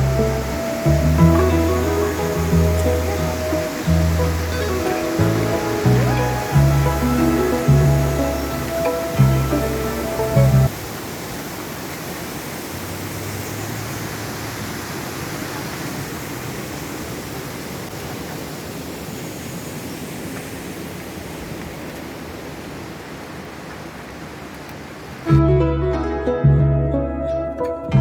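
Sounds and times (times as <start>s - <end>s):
waterfall rushing: 0.0s - 26.1s.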